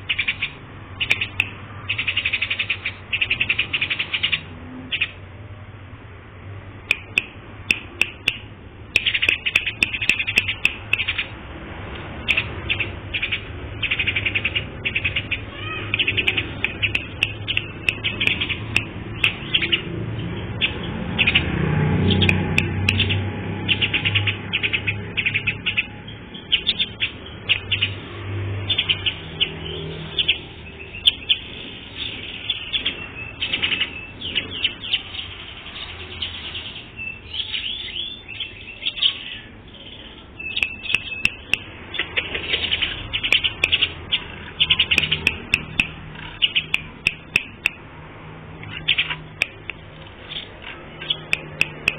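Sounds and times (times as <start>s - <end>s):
songbird chirping: 0.0s - 5.2s, 6.8s - 11.4s, 12.1s - 28.0s, 28.6s - 47.9s, 48.6s - 51.9s.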